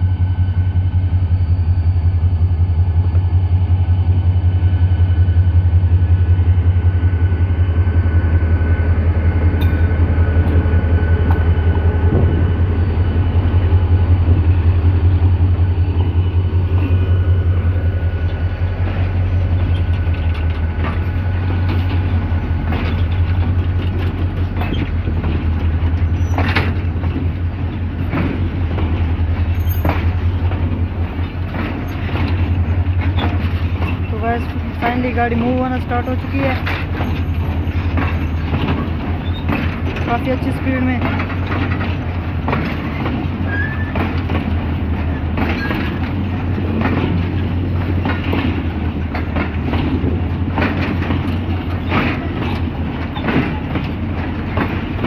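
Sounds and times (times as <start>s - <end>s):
locomotive engine throbbing: 0.0s - 55.0s
train wheels clattering over rail joints: 9.3s - 55.0s.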